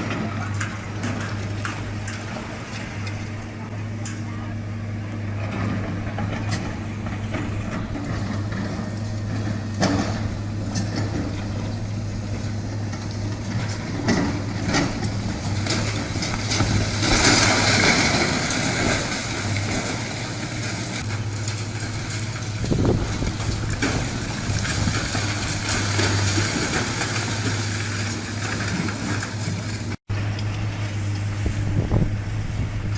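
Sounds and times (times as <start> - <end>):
heavy machine engine running: 0.0 - 32.9.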